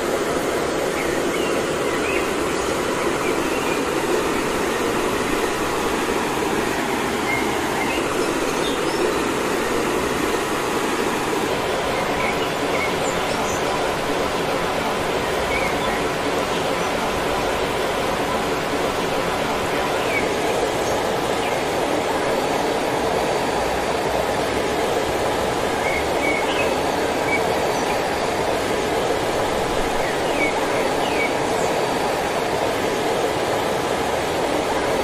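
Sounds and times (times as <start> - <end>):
running water rushing: 0.0 - 35.0.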